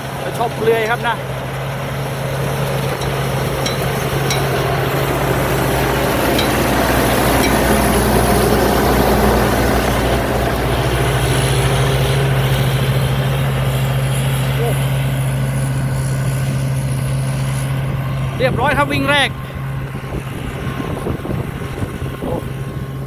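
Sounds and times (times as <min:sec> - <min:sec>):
combine harvester running: 0:00.0 - 0:23.0.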